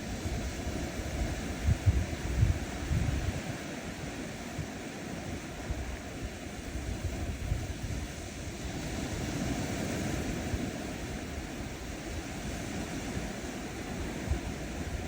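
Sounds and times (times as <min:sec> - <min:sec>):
waves washing on sandy shore: 0:00.0 - 0:15.0
wind rumble on microphone: 0:00.0 - 0:15.0.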